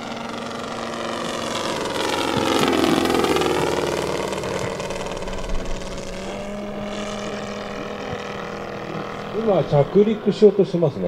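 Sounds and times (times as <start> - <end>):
model plane radial engine flypast: 0.0 - 11.0.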